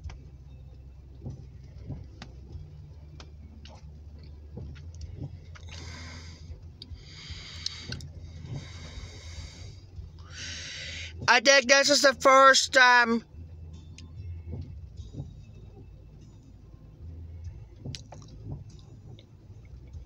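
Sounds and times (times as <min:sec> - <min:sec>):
car engine idling: 0:00.0 - 0:20.0
rain ticking on car: 0:00.0 - 0:20.0
windshield wipers swishing: 0:00.0 - 0:20.0.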